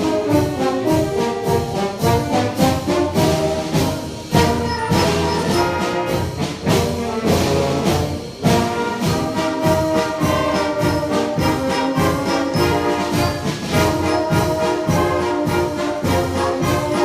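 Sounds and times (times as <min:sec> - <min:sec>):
brass and woodwind chords: 0:00.0 - 0:17.0
steady percussion beat: 0:00.0 - 0:17.0.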